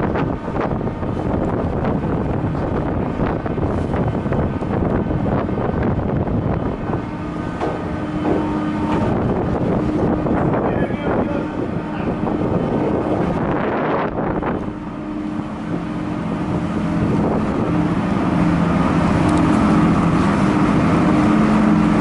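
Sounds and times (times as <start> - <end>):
ship engines droning: 0.0 - 22.0
wind on microphone: 0.0 - 22.0.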